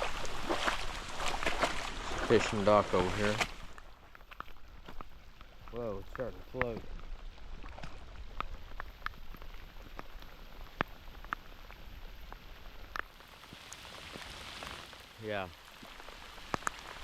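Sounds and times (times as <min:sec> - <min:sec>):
raindrops striking close: 0:00.0 - 0:17.0
steady hiss of rainfall: 0:00.0 - 0:17.0.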